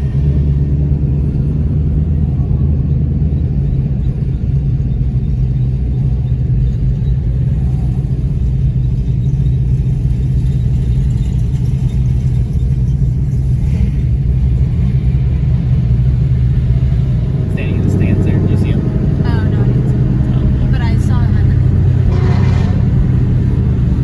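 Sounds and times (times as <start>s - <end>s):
car engine droning steadily: 0.0s - 24.0s.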